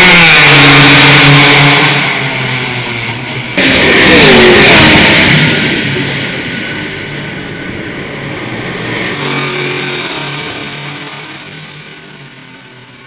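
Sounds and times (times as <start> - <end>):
racing car engines passing: 0.0 - 13.0.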